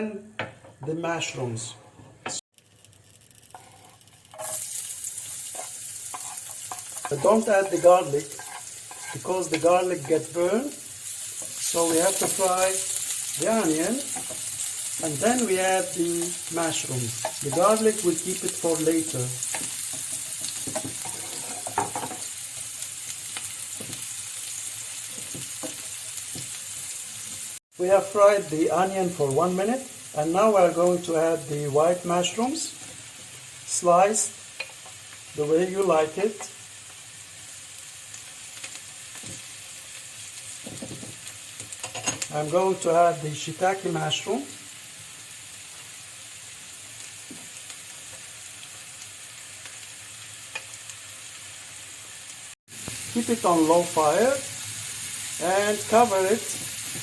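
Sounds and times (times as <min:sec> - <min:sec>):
onion sizzling in a pan: 0:02.5 - 0:57.0.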